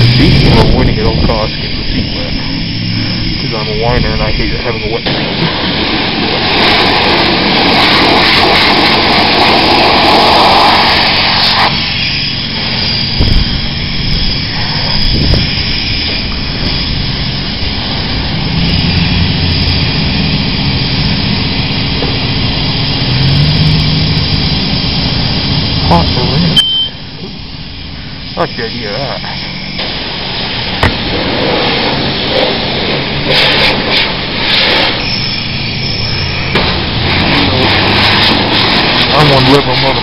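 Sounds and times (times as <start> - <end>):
low steady rumble: 0.0 - 40.0
pressure washer spraying water: 0.0 - 40.0.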